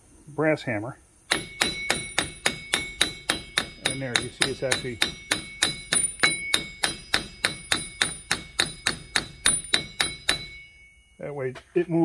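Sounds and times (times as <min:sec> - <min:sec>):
hammer striking metal axle: 0:01.3 - 0:11.6.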